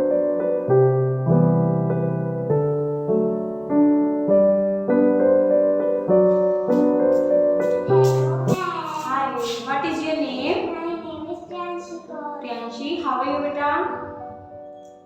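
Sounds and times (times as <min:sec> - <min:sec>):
gentle piano keyboard music: 0:00.0 - 0:15.0.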